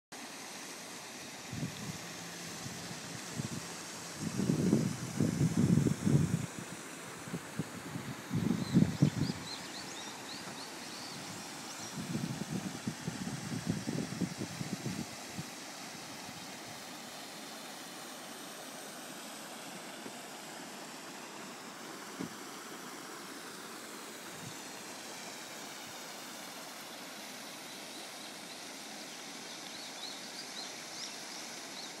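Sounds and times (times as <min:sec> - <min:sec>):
running water rushing: 0:00.2 - 0:32.0.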